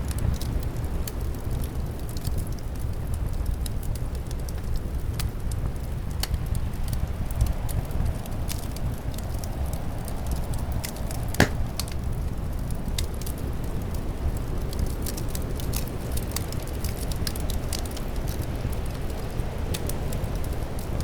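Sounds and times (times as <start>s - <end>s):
wood fire crackling and popping: 2.0s - 21.0s.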